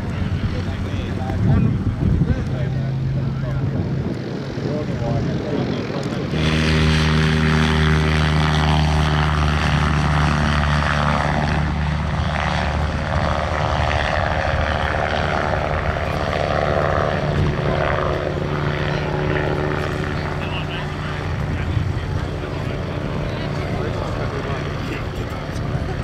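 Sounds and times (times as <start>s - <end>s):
propeller aircraft engine drone: 0.0s - 26.0s.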